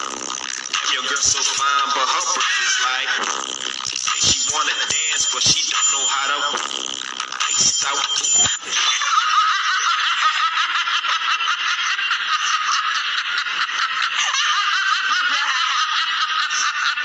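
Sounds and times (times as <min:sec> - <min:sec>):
high-pitched giggling: 0:00.0 - 0:17.0.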